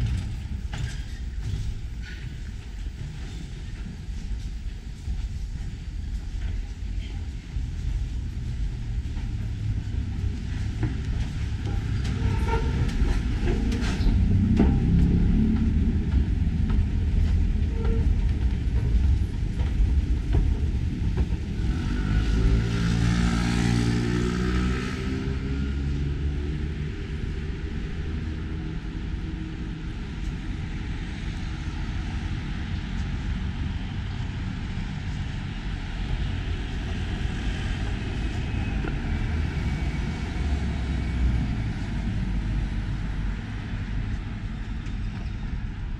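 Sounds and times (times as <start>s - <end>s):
road traffic rumbling: 0.0s - 45.9s.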